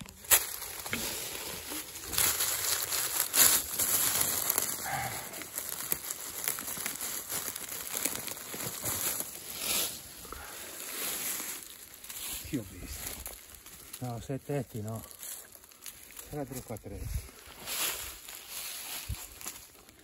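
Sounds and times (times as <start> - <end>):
dry leaves rustling and crackling: 0.0 - 20.0.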